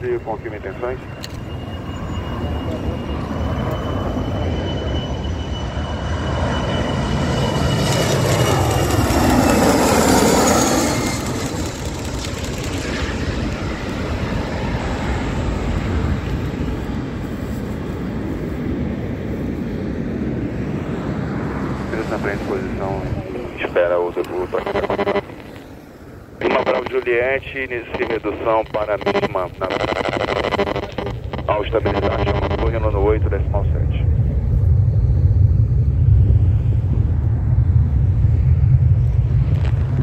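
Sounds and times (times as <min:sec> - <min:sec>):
jet engine rumble with high whine: 0:00.0 - 0:40.0.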